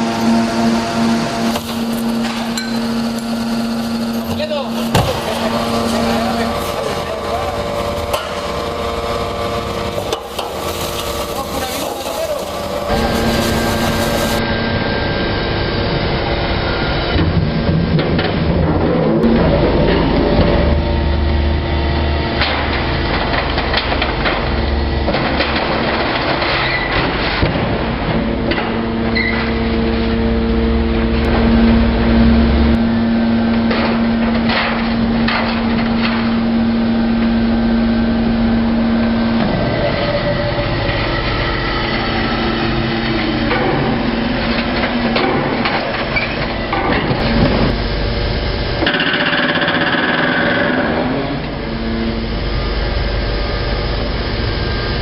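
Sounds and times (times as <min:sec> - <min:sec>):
machine hum: 0:00.0 - 0:55.0
machine whine: 0:00.0 - 0:55.0.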